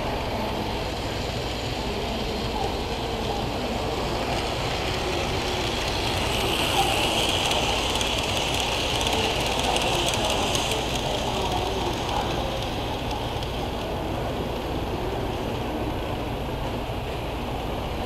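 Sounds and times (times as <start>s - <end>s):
model train whirring and rattling: 0.0s - 18.0s
wheels clicking over rails: 0.0s - 18.0s.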